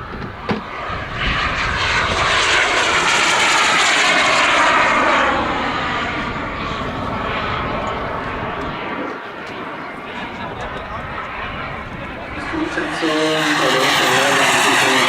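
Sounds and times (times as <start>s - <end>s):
model jet engine flying past: 0.0s - 15.0s.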